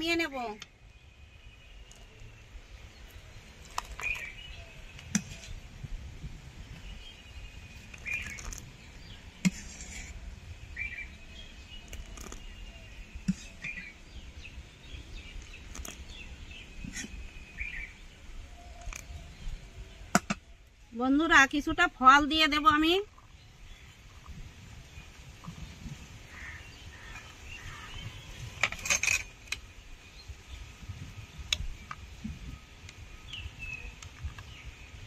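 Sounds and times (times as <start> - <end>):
bird chirping: 0.0 - 5.6, 6.7 - 31.0.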